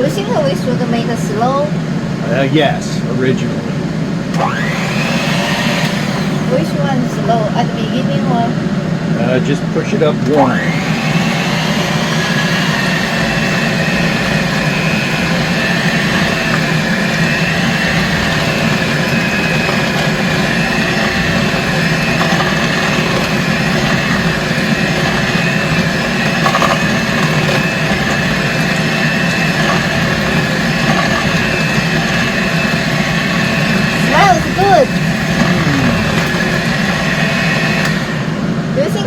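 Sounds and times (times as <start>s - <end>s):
blender motor whining: 4.3s - 7.5s, 10.0s - 38.8s.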